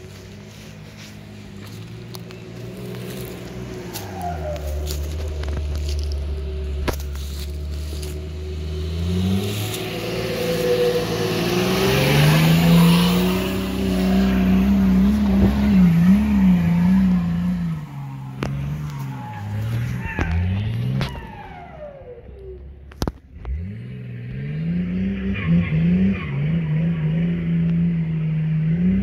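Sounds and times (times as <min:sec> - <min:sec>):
tyres on loose dirt: 0:00.0 - 0:24.6
suv engine revving: 0:00.0 - 0:29.0.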